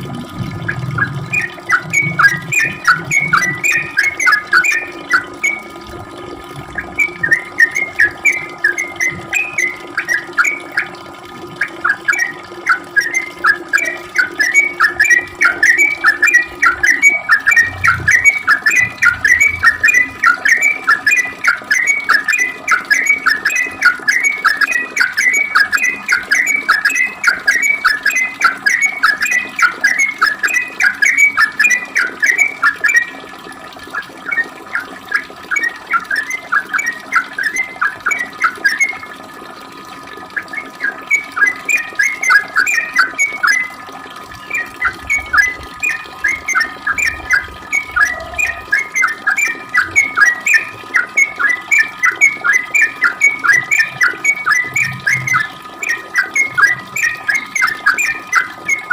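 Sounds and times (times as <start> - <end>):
bulbul whistled song: 0.6 - 6.0, 6.7 - 11.0, 11.6 - 33.2, 34.2 - 39.2, 40.3 - 58.9.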